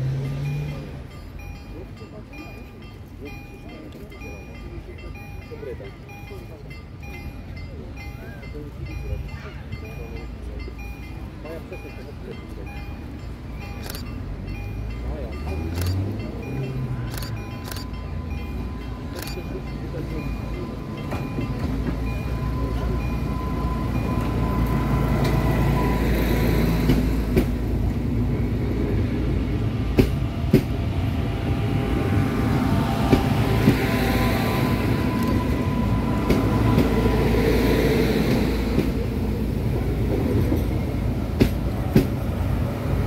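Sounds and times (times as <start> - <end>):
train rumbling past: 0.0 - 43.0.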